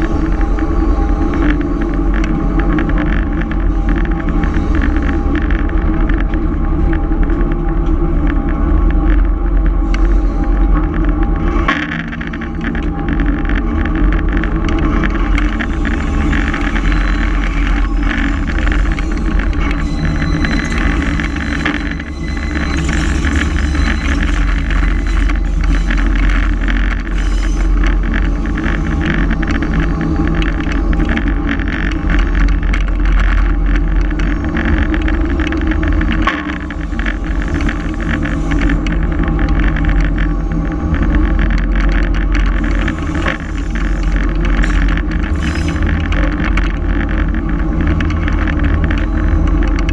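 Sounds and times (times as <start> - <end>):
locomotive engine running: 0.0 - 49.9
train cars rattling on track: 0.0 - 49.9.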